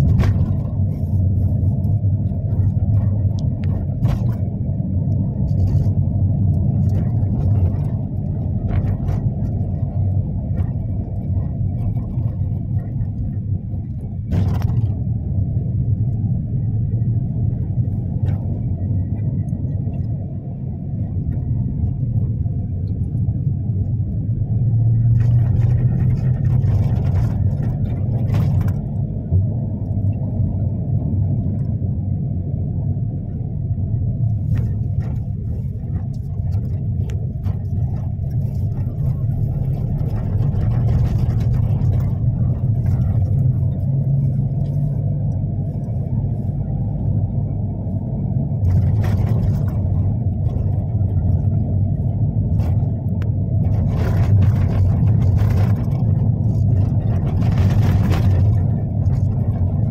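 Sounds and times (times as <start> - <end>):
vehicle engine and tyres rumbling: 0.0 - 59.9.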